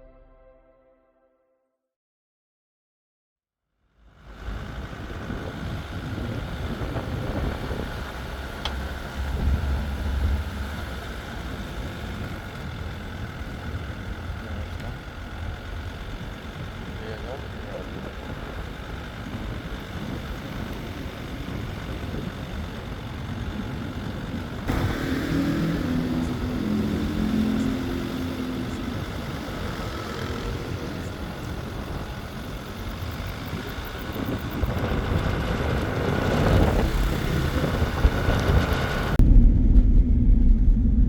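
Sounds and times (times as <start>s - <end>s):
vehicle engine and tyres rumbling: 4.0s - 41.0s.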